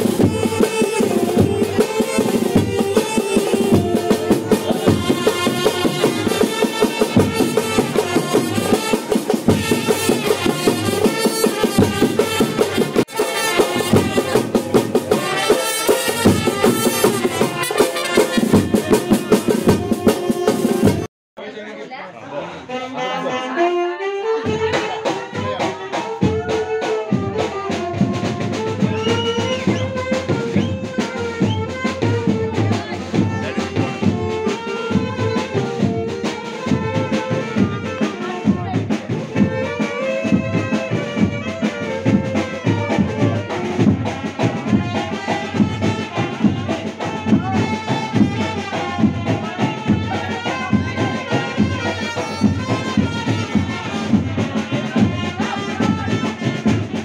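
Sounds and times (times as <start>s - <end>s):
horn melody: 0.0s - 21.1s, 22.7s - 57.0s
steady drum beat: 0.0s - 21.1s, 24.2s - 57.0s.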